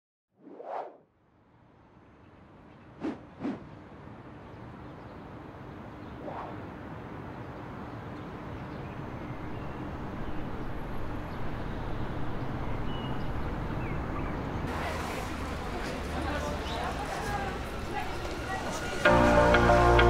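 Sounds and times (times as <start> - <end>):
distant motorway traffic hum: 1.4 - 20.0.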